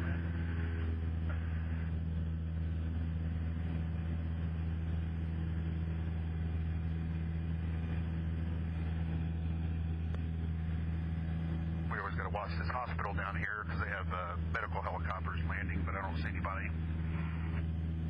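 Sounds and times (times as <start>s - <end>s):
aircraft engine and propeller droning: 0.0s - 18.0s.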